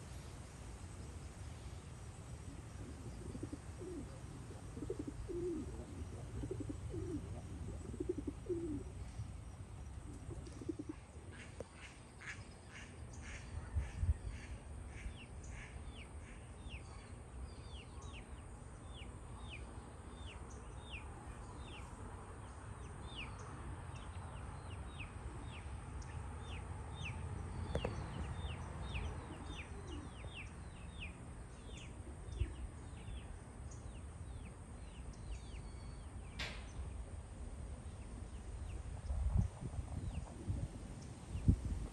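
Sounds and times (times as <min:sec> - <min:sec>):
low steady rumble: 0:00.0 - 0:41.9.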